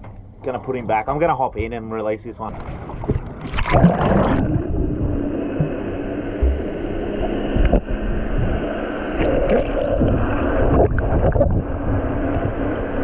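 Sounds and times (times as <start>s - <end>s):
underwater rushing: 2.4s - 13.0s
gurgles and clicks: 2.5s - 13.0s.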